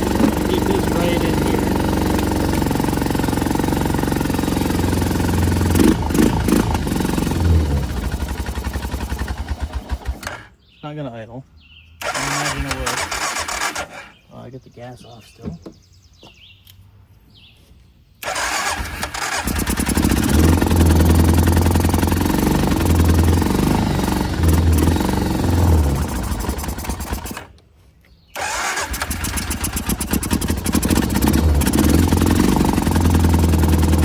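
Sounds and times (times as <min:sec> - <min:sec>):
engine starting and idling: 0:00.0 - 0:10.6, 0:12.0 - 0:14.3, 0:18.2 - 0:27.6, 0:28.3 - 0:34.0.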